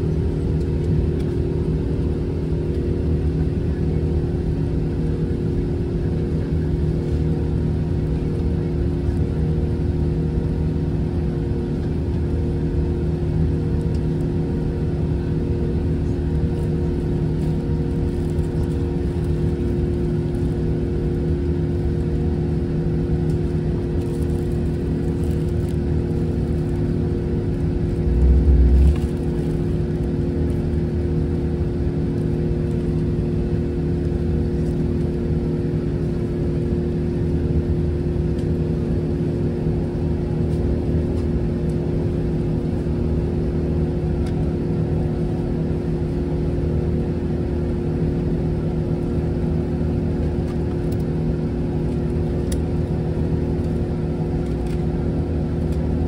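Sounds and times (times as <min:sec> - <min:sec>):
airplane cabin engine drone: 0:00.0 - 0:56.0.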